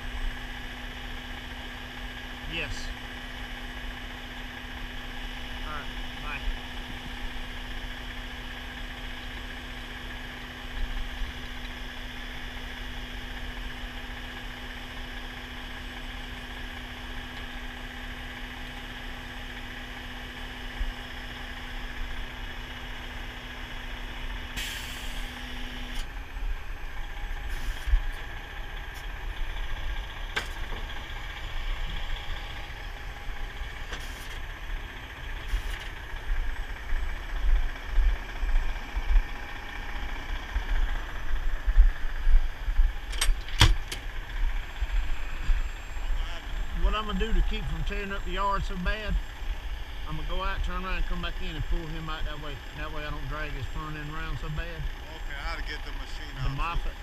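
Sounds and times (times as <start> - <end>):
diesel engine running: 0.0 - 57.0
steady whine: 0.0 - 57.0.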